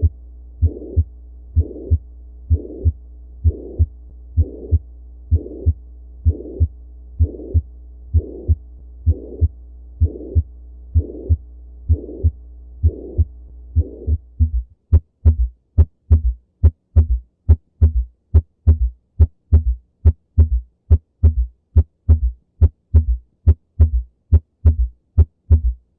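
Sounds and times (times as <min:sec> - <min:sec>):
low hum: 0:00.0 - 0:25.8
heart murmur: 0:00.0 - 0:25.9
heartbeats: 0:00.0 - 0:25.9.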